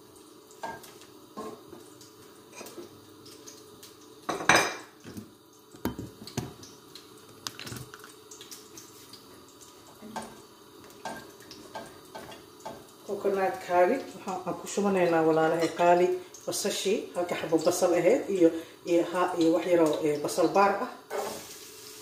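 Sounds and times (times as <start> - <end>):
faint steady hum: 0.0 - 21.1.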